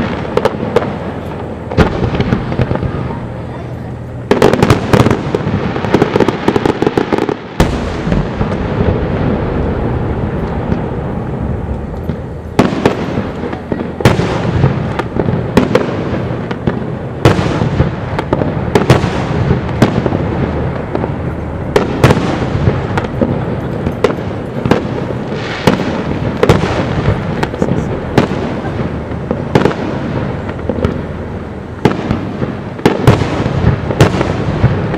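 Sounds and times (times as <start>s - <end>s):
fireworks crackling: 0.0s - 34.9s
rumble of explosions: 0.0s - 34.9s.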